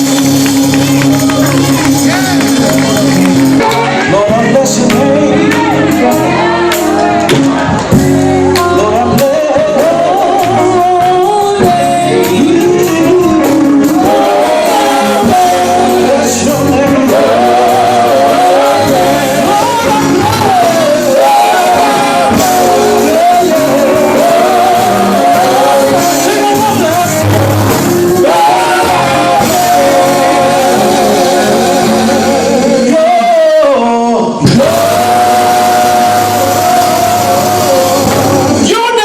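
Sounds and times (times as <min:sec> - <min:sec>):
gospel group singing: 0:00.0 - 0:39.0
instrumental backing: 0:00.0 - 0:39.0.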